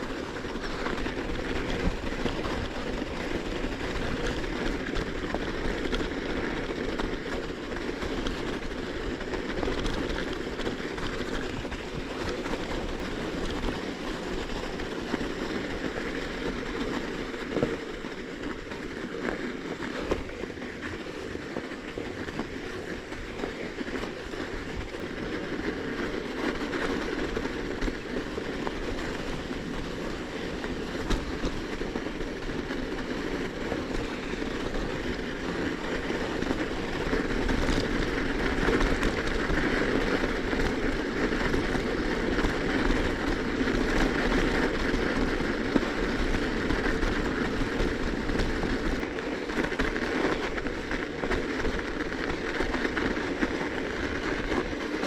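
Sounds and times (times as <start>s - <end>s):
bicycle tyres on snow crust: 0.0s - 55.0s.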